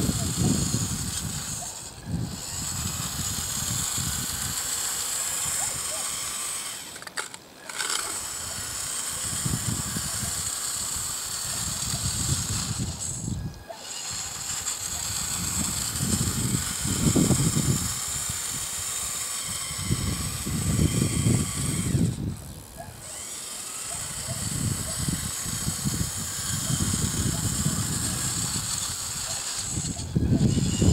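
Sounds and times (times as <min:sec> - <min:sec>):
electric motor whine: 0:00.0 - 0:30.9
wheels grinding over gravel: 0:00.0 - 0:30.9.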